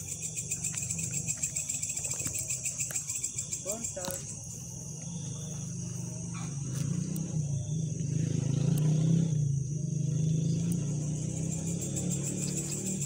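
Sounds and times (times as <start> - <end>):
crickets chirping: 0.0 - 13.0
low droning hum: 0.0 - 13.0.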